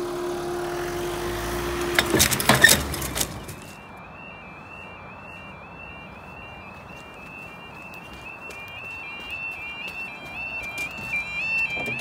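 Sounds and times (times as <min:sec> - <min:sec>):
level crossing alarm two-tone yodel: 0:00.0 - 0:12.0.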